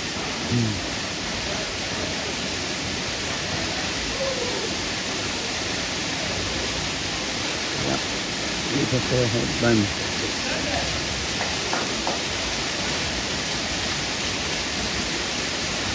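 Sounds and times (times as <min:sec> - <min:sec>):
falling and flowing water: 0:00.0 - 0:15.9.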